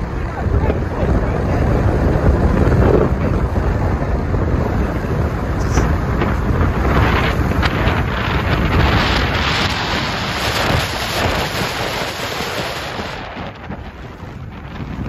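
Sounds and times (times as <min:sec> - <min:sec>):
car driving: 0:00.0 - 0:15.0
wind buffeting microphone: 0:00.0 - 0:15.0.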